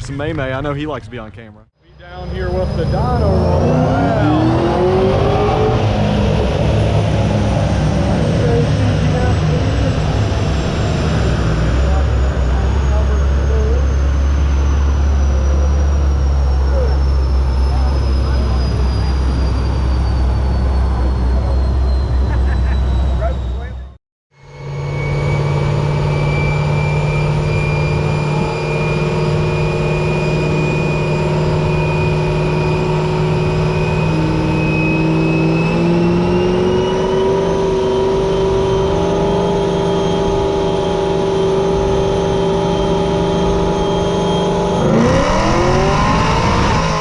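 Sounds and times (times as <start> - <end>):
vehicle engine revving: 0.0 - 47.0.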